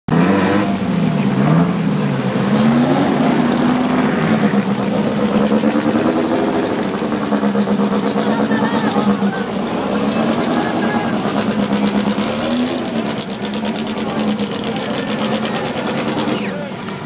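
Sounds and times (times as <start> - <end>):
race car engine revving: 0.1 - 17.0.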